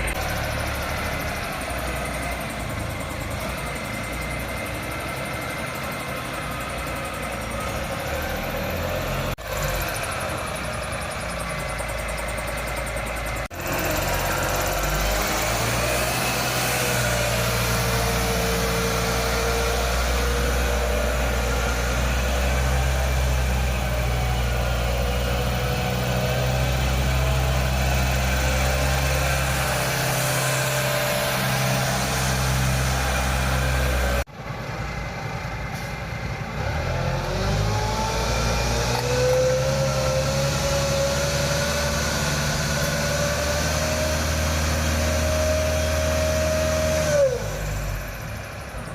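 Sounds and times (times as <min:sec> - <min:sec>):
forklift engine running: 0:00.0 - 0:48.9.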